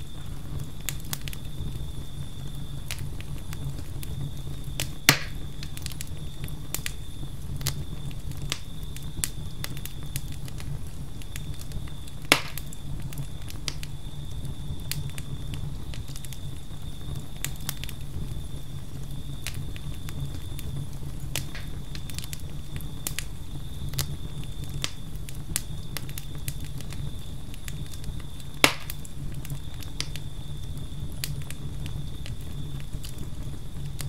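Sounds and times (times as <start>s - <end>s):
campfire crackling: 0.0s - 34.0s
cricket trill: 0.0s - 34.0s
loud fire pops: 0.0s - 34.0s.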